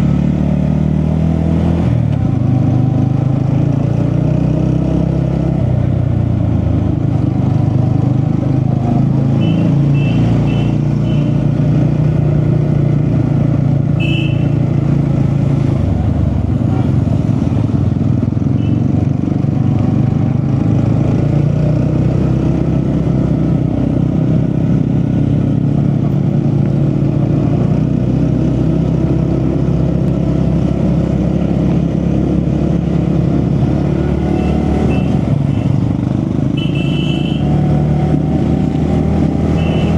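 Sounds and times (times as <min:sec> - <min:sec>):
motorcycle engine running: 0:02.0 - 0:39.9.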